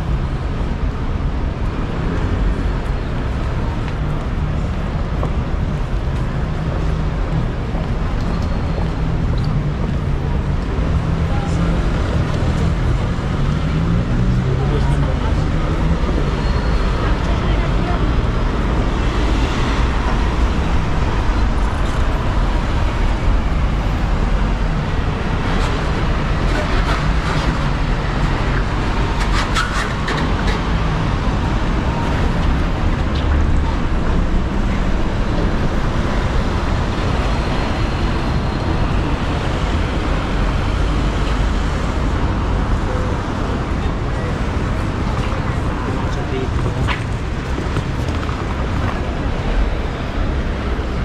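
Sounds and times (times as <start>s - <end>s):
traffic passing with low rumble: 0.0s - 51.0s.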